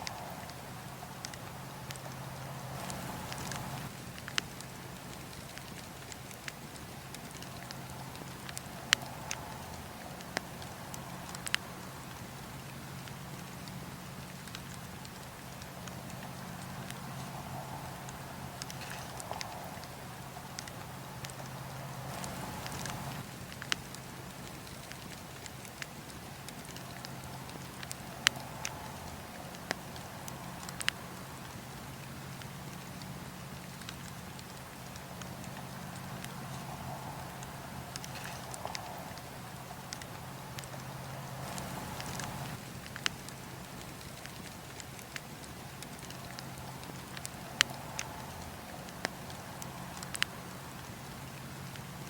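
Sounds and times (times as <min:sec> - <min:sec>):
campfire hissing: 0:00.0 - 0:52.0
fire crackling and popping: 0:00.0 - 0:52.0.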